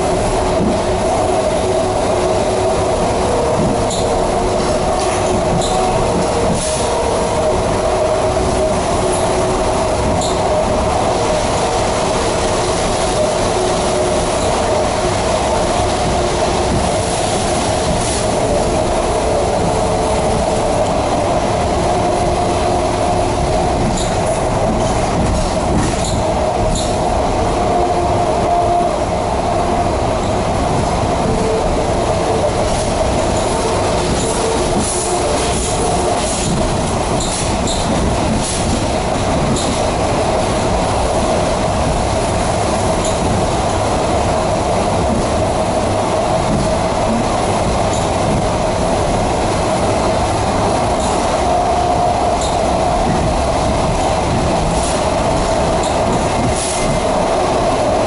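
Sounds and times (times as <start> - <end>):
wheels rumbling on rail: 0.0 - 58.0.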